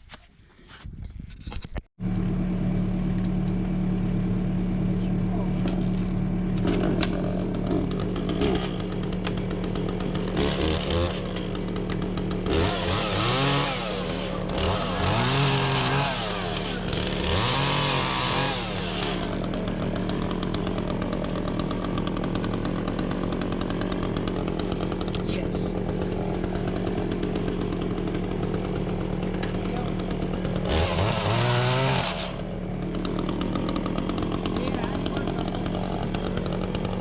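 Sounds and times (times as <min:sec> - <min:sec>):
chainsaw revving: 0:05.7 - 0:37.0.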